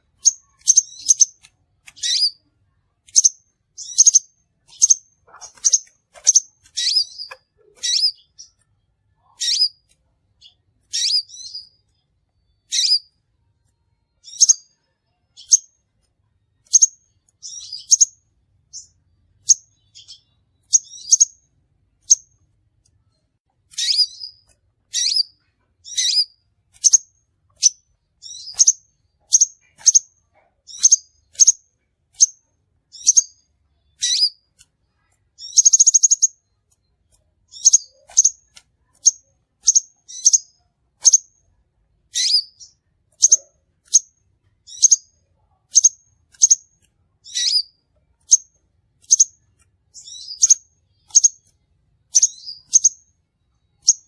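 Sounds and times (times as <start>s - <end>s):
bird calling with sharp chirps: 0.0s - 8.6s, 9.2s - 13.2s, 14.2s - 15.7s, 16.6s - 21.4s, 23.7s - 34.5s, 35.4s - 36.6s, 37.5s - 41.4s, 42.1s - 51.5s, 52.1s - 53.2s.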